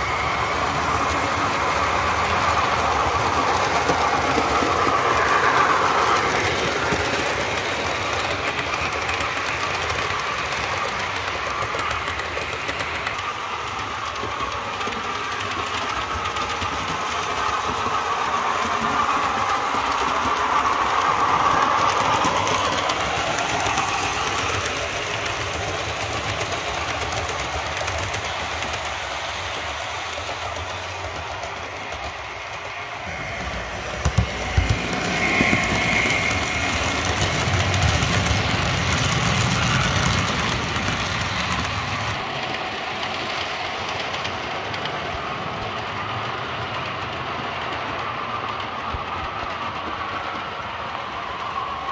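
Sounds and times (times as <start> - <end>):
wheels rattling over track: 0.0 - 51.9.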